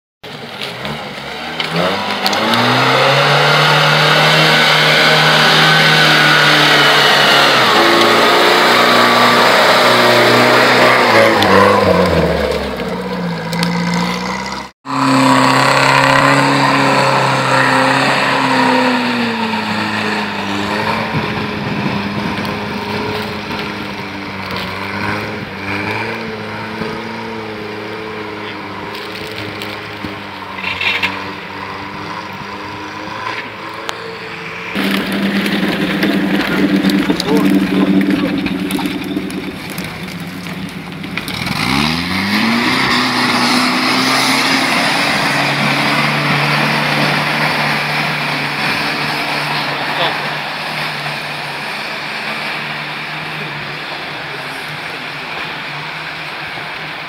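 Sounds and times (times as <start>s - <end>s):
off-road engine revving: 0.2s - 57.0s
wheels churning through mud: 0.2s - 57.0s.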